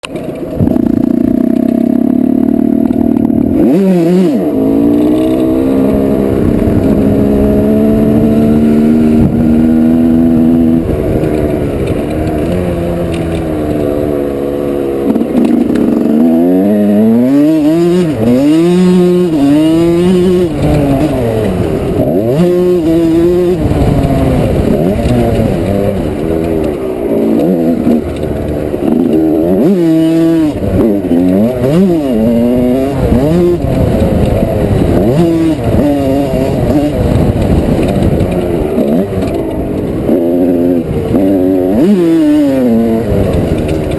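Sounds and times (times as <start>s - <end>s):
two-stroke motorbike engine revving: 0.0s - 43.9s.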